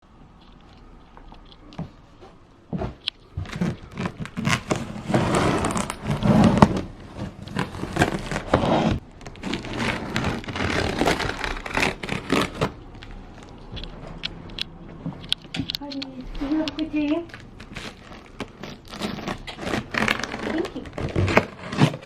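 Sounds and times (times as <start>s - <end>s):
packaging crinkling and tearing: 3.0s - 22.0s.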